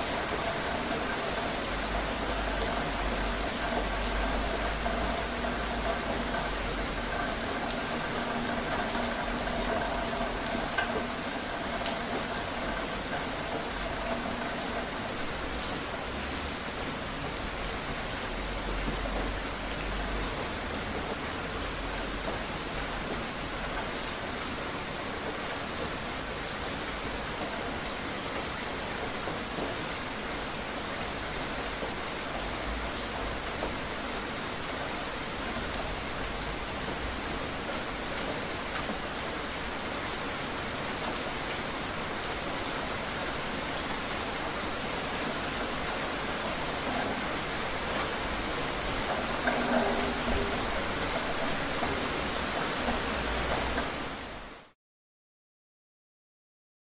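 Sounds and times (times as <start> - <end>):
steady rain: 0.0 - 54.8.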